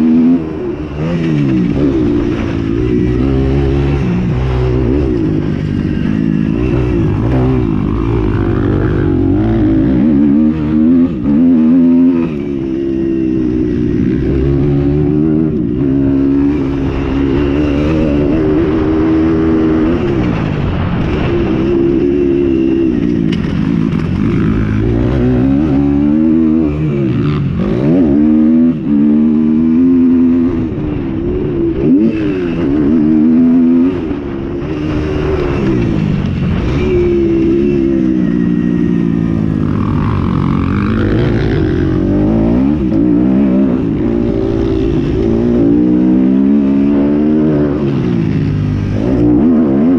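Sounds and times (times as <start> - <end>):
motorcycle engines revving: 0.0 - 49.9.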